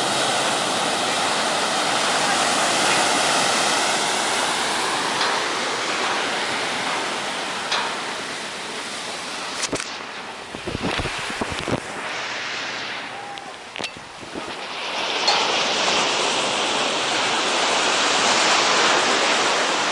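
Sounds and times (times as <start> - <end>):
surf breaking on beach: 0.0 - 19.9.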